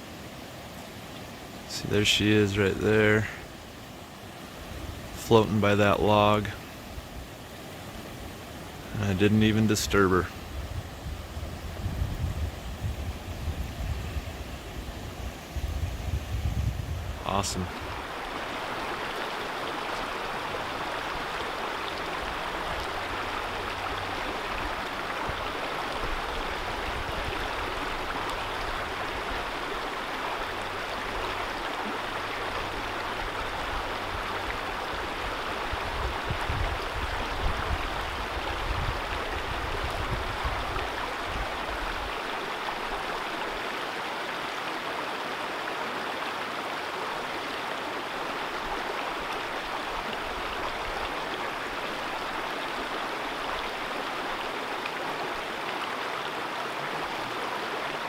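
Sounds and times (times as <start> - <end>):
stream flowing water: 0.0 - 58.0.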